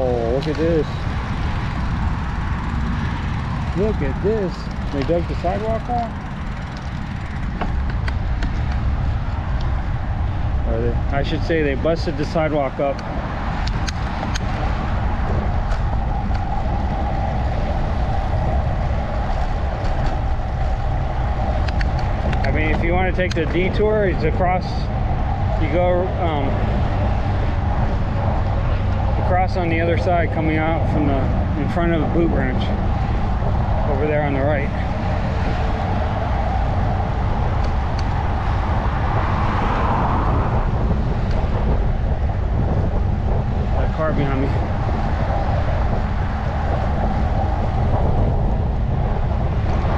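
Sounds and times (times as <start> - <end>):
car passing: 0.0 - 49.9
road traffic rumble: 0.0 - 49.9.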